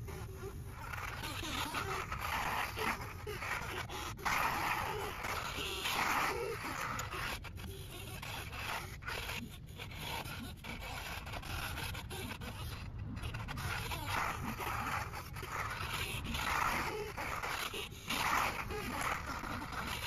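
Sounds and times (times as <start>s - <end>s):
toy loader scraping and grinding dirt: 0.0s - 20.0s.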